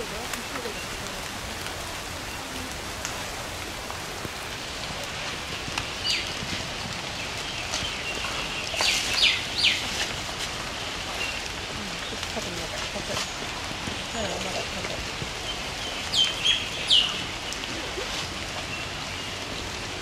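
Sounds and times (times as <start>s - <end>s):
rain pattering on ground: 0.0s - 20.0s
water drips: 0.0s - 20.0s.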